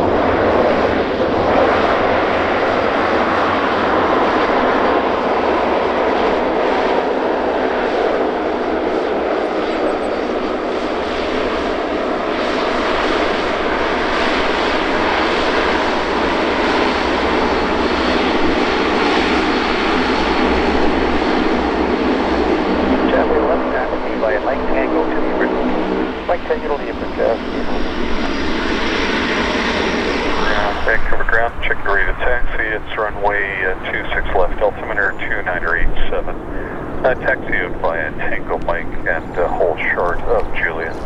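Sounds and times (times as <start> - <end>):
steady propeller tone: 0.0 - 41.0
turboprop engines running: 0.0 - 41.0.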